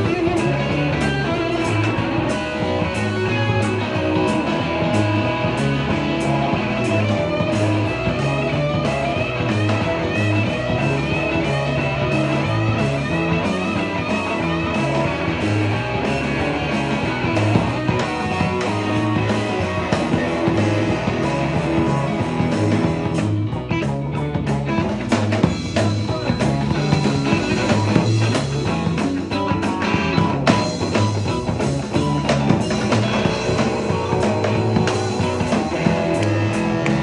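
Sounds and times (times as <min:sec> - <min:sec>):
electric guitars: 0:00.0 - 0:37.0
repeating bass notes: 0:00.0 - 0:37.0.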